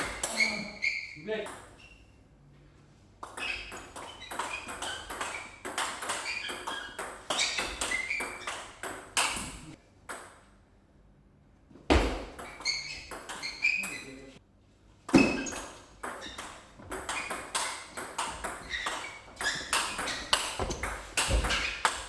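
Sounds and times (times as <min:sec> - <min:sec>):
table tennis ball hitting bats and table: 0:00.0 - 0:00.6, 0:01.4 - 0:02.0, 0:03.2 - 0:10.6, 0:11.9 - 0:14.1, 0:15.0 - 0:22.0.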